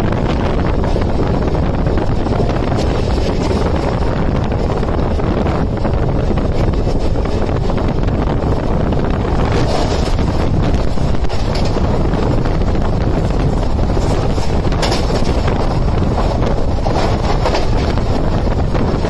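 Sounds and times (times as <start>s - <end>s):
passenger train running at speed: 0.0s - 19.0s
wind rushing on microphone: 0.0s - 19.0s.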